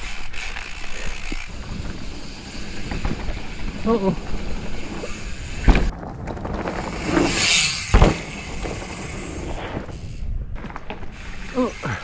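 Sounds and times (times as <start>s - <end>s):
bike tyres rattling over dirt: 0.0s - 12.0s.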